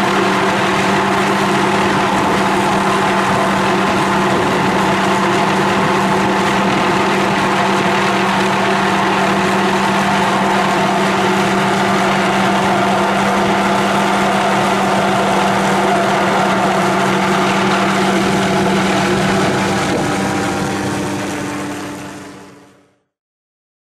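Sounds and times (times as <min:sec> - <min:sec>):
helicopter engine and rotor: 0:00.0 - 0:23.0.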